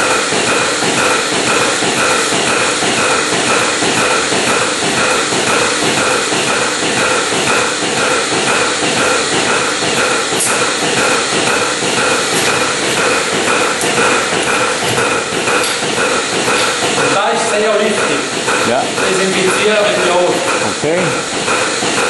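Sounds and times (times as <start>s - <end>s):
milking machine pulsator pulsing: 0.0s - 22.0s
vacuum air hissing: 0.0s - 22.0s.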